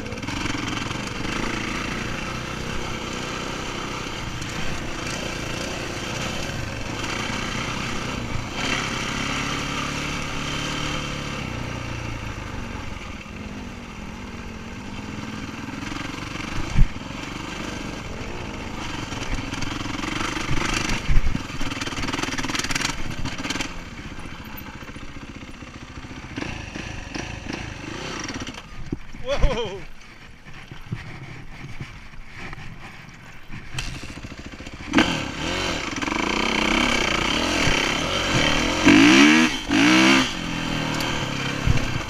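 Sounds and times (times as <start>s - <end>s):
dirt bike engine revving: 0.0s - 32.5s, 33.2s - 42.0s.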